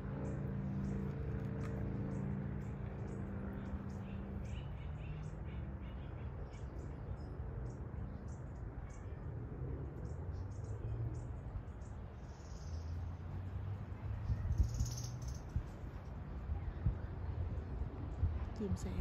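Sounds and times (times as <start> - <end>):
small birds chirping: 0.1 - 13.4, 14.2 - 16.9.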